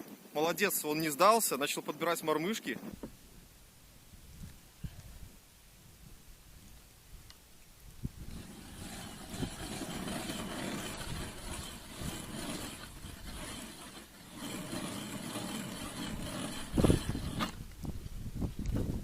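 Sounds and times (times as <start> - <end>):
strong wind buffeting microphone: 2.9 - 13.9, 14.6 - 19.0.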